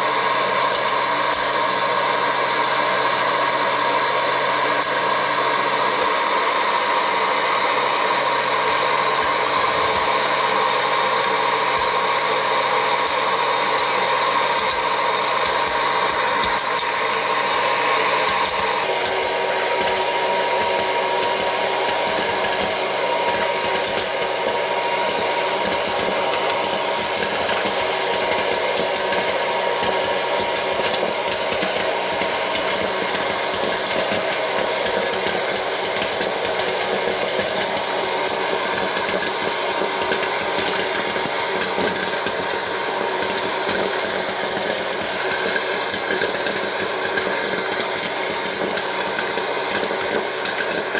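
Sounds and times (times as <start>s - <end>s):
popcorn popper blower rushing: 0.0s - 50.9s.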